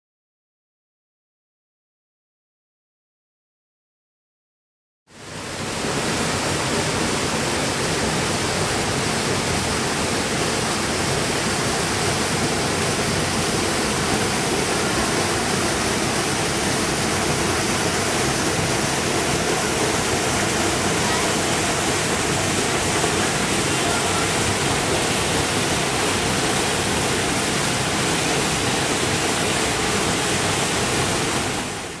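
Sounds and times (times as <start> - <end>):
waterfall rushing: 5.2 - 32.0.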